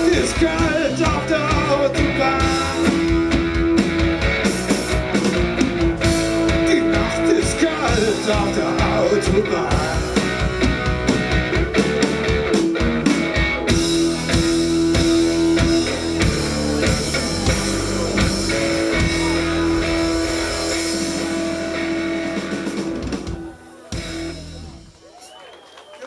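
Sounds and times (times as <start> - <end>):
guitar chords: 0.0 - 24.9
rock band playing live: 0.0 - 25.0.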